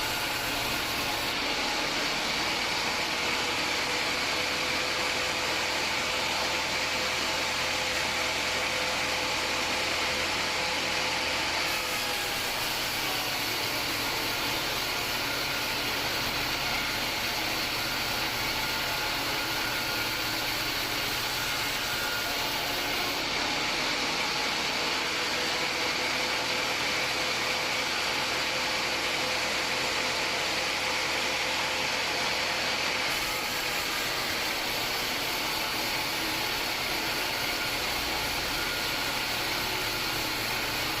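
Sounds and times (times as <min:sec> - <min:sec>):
saw blade cutting wood: 0:00.0 - 0:41.0
sawmill mechanical whine: 0:00.0 - 0:41.0.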